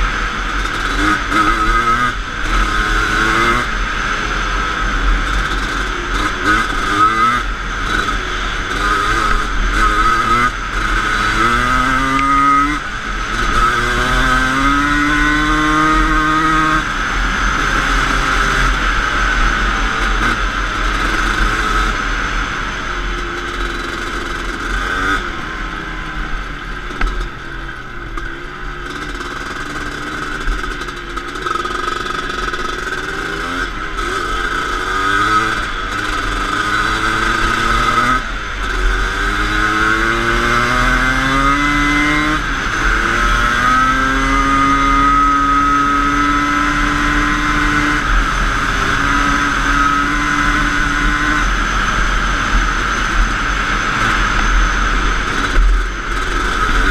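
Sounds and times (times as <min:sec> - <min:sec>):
quad engine revving: 0:00.0 - 0:22.3, 0:23.2 - 0:56.9.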